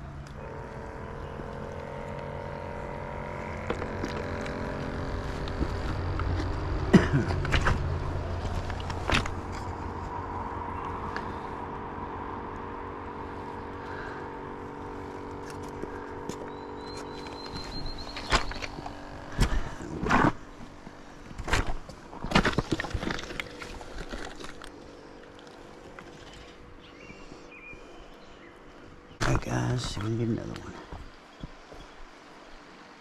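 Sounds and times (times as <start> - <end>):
vehicle engine running: 0.0 - 30.6.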